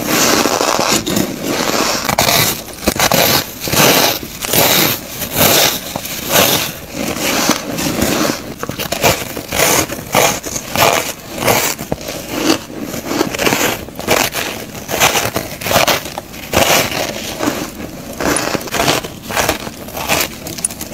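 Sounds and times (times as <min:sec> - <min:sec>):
hand scooping loose ice: 0:00.0 - 0:20.9
shaved ice being chewed: 0:00.1 - 0:20.9.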